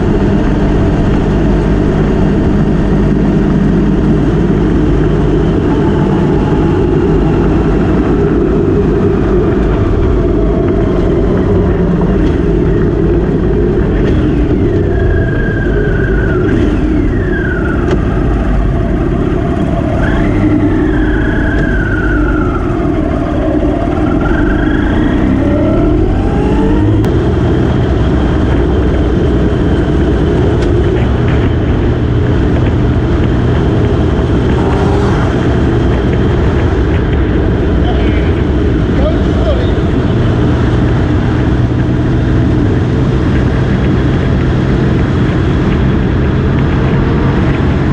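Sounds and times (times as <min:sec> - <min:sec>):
motorcycle engine: 0:00.0 - 0:47.9
wind rushing: 0:00.0 - 0:47.9.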